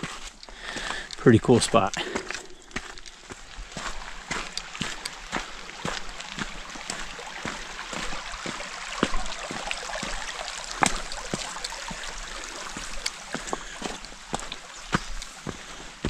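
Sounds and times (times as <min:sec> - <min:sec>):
brook running over rocks: 0:00.0 - 0:16.0
footsteps on rock and gravel: 0:00.0 - 0:16.0.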